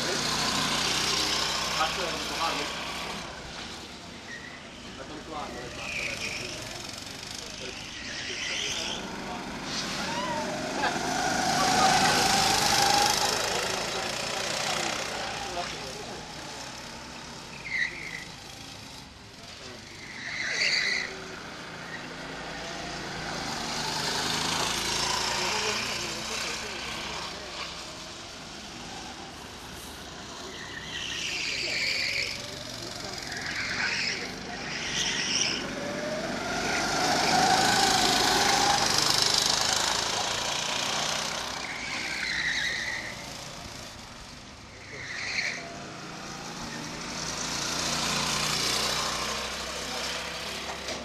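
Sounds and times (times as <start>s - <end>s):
high-pitched tyre squeals: 0.0s - 43.8s, 44.6s - 51.0s
go-kart engines buzzing: 0.0s - 51.0s.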